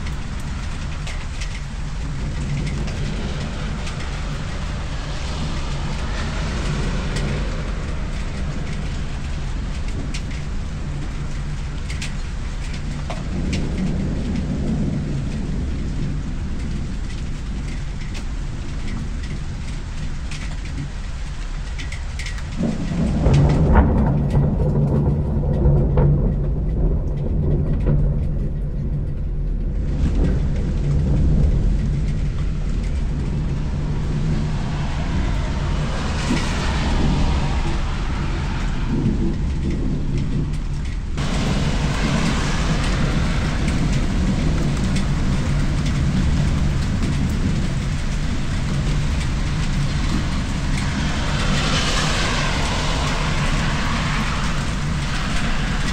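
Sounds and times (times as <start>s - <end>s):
low rumble: 0.0s - 55.9s
steady rain: 0.0s - 55.9s.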